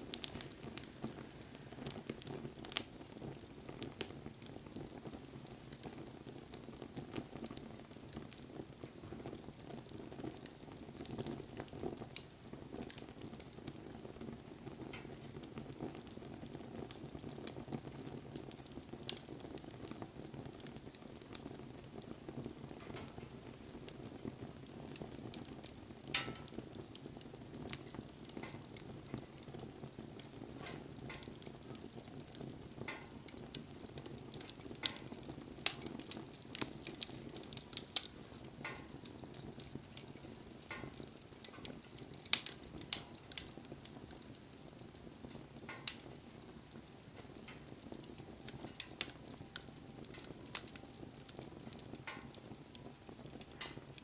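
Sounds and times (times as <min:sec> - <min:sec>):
bonfire flame rushing: 0:00.0 - 0:54.0
fire crackling and popping: 0:00.0 - 0:54.0.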